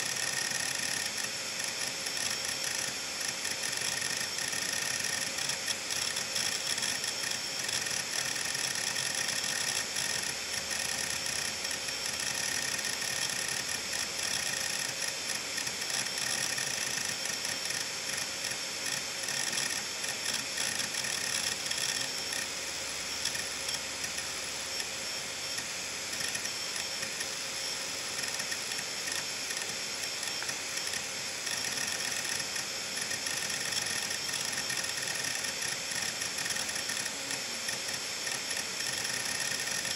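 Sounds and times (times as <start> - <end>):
hard drive head ticking: 0.0 - 39.9
hard drive high whine: 0.0 - 39.9.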